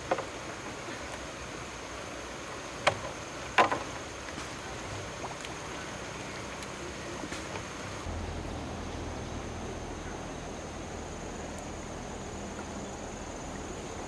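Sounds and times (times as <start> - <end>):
steady hiss: 0.0 - 14.0
water splashing: 0.0 - 14.0.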